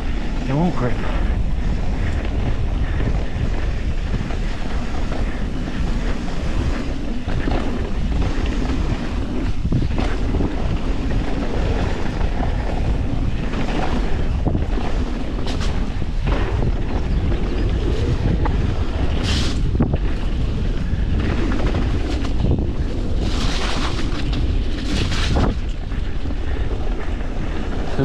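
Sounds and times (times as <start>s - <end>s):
bike rattling: 0.0s - 28.0s
tyres rumbling on wet dirt: 0.0s - 28.0s
wind buffeting microphone: 0.0s - 28.0s.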